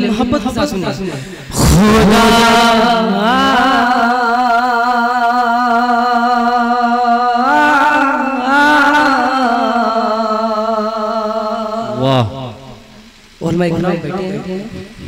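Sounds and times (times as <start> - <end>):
man singing: 0.0 - 12.6.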